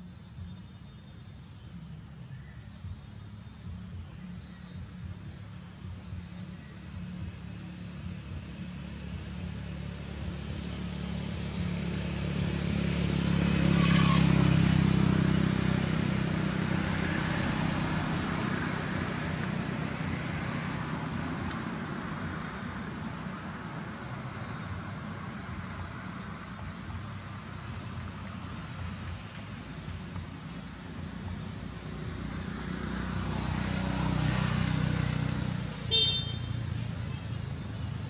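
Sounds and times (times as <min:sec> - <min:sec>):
vehicle engine passing by: 0:02.8 - 0:38.0.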